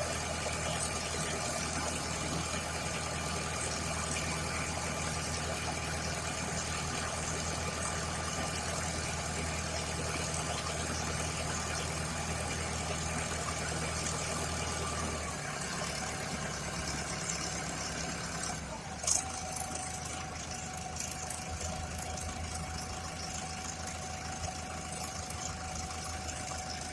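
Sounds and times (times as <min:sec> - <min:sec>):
mixer truck engine running: 0:00.0 - 0:26.9.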